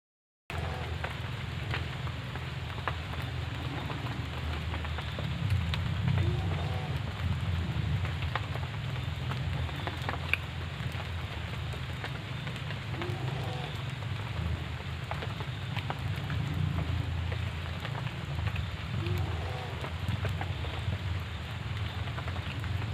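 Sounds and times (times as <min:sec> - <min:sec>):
steady rain: 0:00.5 - 0:22.9.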